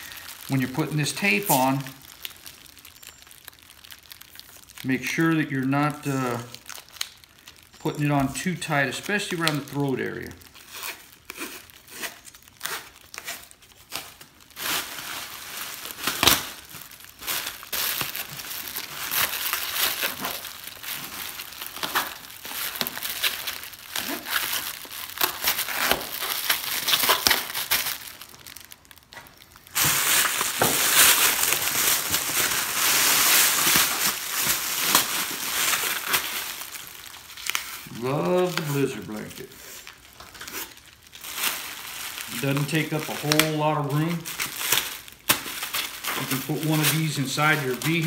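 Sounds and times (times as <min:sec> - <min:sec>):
reflective blanket crinkling: 0:00.0 - 0:48.0.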